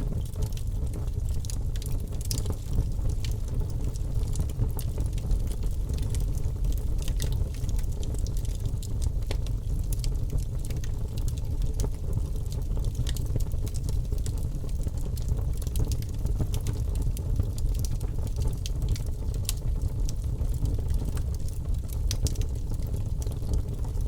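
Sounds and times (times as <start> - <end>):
logs crackling in a fireplace: 0.0 - 24.0.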